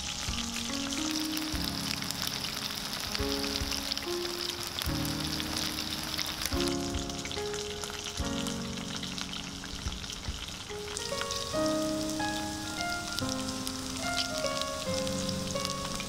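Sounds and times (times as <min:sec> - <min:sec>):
background music of held notes: 0:00.0 - 0:16.0
food deep-frying in oil: 0:00.0 - 0:16.0.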